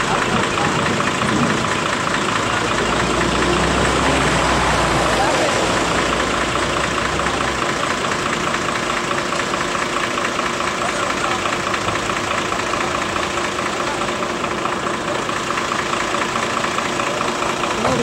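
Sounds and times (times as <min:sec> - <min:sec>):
people's voices: 0:00.0 - 0:18.0
truck diesel engine idling: 0:00.0 - 0:18.0.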